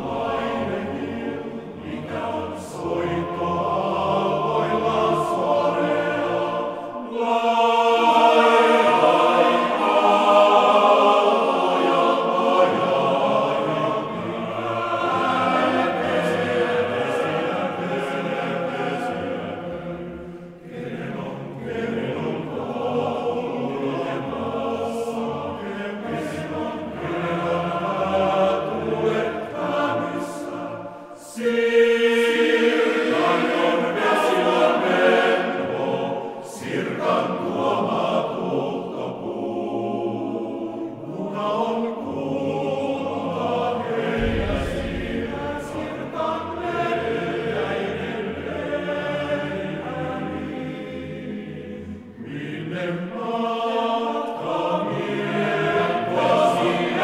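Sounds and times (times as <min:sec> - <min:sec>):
male voice choir singing: 0:00.0 - 0:57.0.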